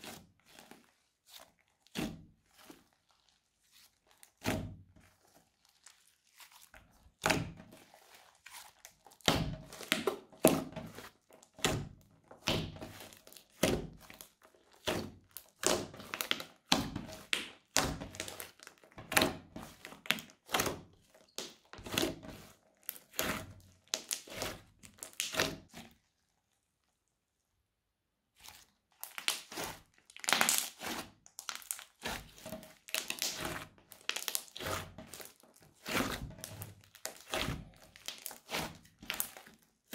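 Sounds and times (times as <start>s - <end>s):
slime popping and crackling: 0.0s - 25.8s, 28.4s - 39.9s.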